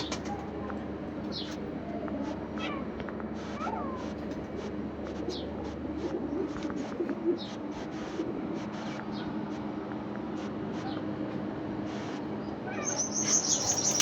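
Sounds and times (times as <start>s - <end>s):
birds chirping: 0.0s - 9.7s, 11.9s - 14.0s
steady low hum: 0.0s - 14.0s.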